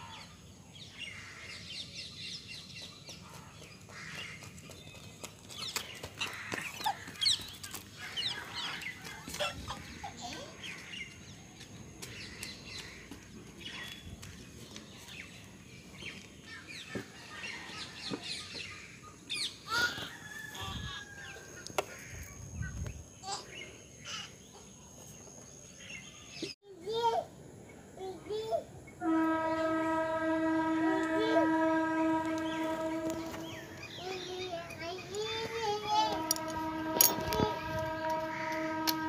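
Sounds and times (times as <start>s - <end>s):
birds chirping: 0.0s - 20.4s, 27.6s - 39.0s.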